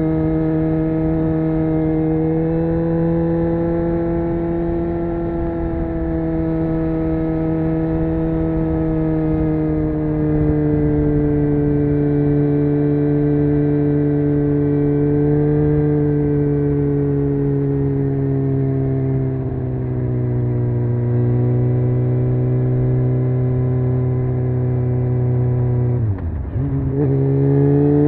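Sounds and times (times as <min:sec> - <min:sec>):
motorcycle engine at high revs: 0:00.0 - 0:28.0.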